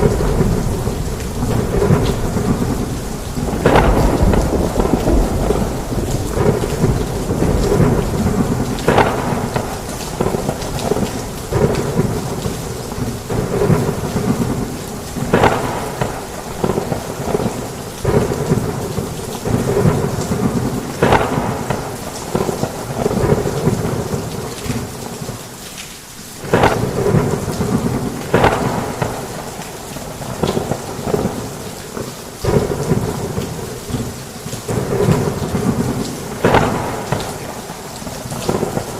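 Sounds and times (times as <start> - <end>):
sharp thunder cracks: 0.0 - 24.4, 26.4 - 31.6, 32.4 - 38.9
rumbling thunder: 0.0 - 25.3, 26.4 - 38.9
heavy rain: 0.0 - 38.9.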